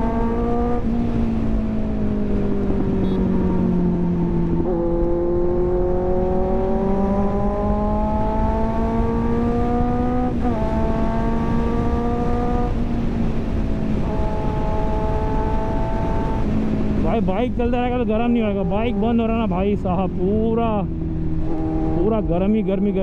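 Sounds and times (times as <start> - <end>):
motorcycle engine accelerating: 0.0 - 23.0
wind rumble on microphone: 0.0 - 23.0.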